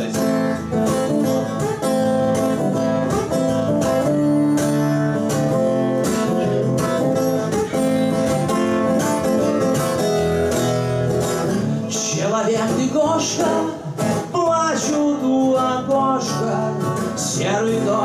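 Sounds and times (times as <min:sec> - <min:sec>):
acoustic guitar strumming: 0:00.0 - 0:18.0
lap stringed instrument: 0:00.0 - 0:18.0.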